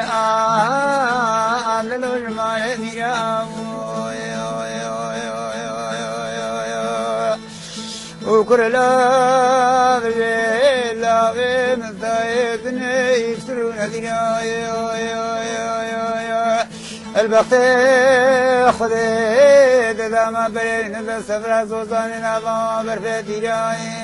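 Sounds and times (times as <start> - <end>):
man singing ornamented melody: 0.0 - 24.0.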